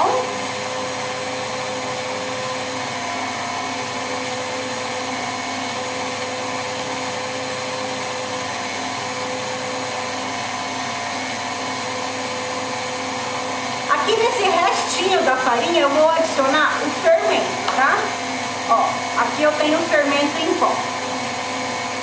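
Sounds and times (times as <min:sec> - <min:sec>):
stand mixer beating batter: 0:00.0 - 0:22.0.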